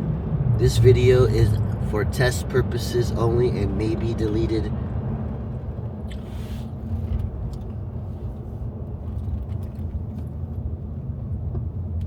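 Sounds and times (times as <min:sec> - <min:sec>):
vehicle running rumble: 0:00.0 - 0:12.0.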